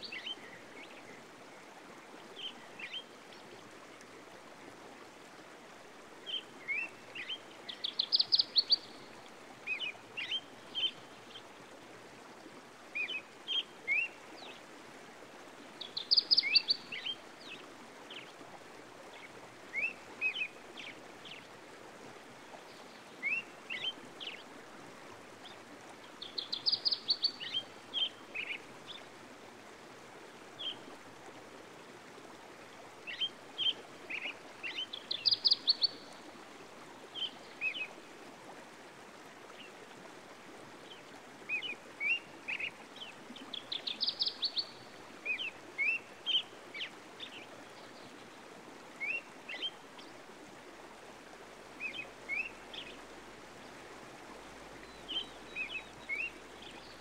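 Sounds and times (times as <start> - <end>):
soft wash of running water: 0.0 - 57.0.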